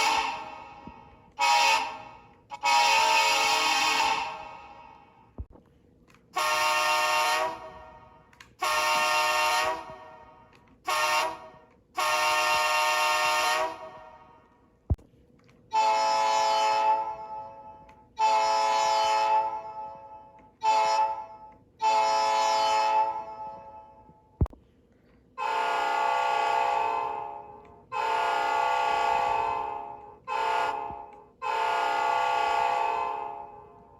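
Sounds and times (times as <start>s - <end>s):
diesel locomotive air horn: 0.0s - 5.1s, 6.4s - 14.5s, 15.7s - 24.2s, 25.4s - 33.9s.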